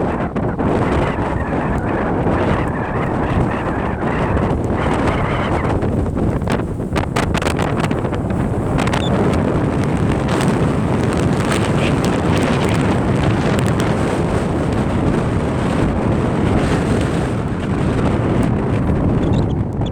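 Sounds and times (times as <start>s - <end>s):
strong wind buffeting microphone: 0.0s - 19.9s.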